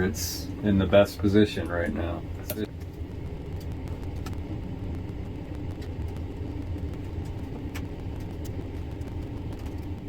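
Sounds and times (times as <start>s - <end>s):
cassette deck humming: 0.0s - 10.0s.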